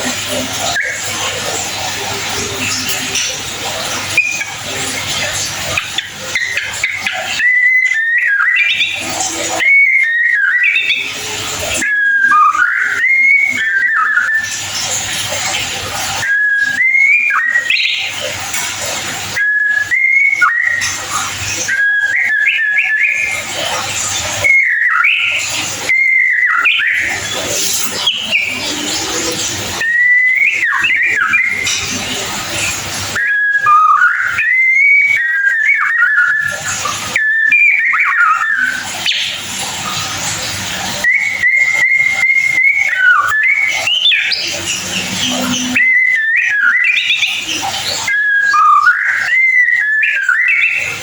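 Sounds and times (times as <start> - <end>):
bird singing whistled chatter: 0.0 - 51.0.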